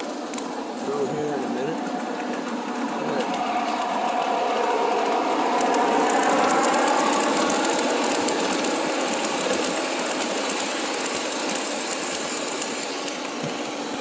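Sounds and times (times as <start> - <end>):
model train motors whirring: 0.0 - 14.0.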